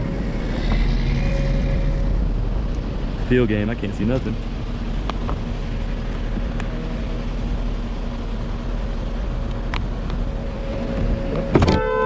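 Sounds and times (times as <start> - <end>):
low rumble with hum: 0.0 - 12.0.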